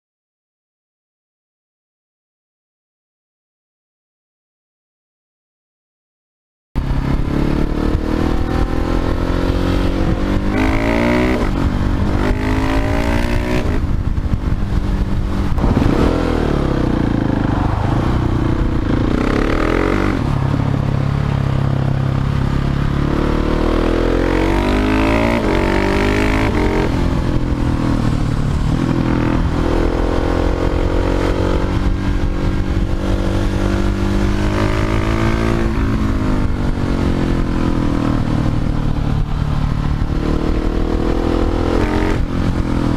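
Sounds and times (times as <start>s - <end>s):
motorcycle engine revving: 6.8s - 42.9s.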